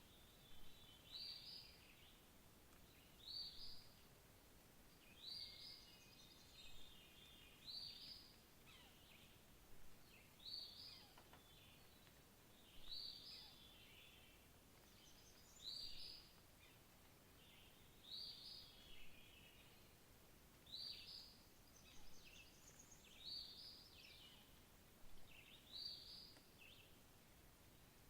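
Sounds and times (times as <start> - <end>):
songbird singing: 0.0 - 27.0
faint background hiss: 0.0 - 28.0.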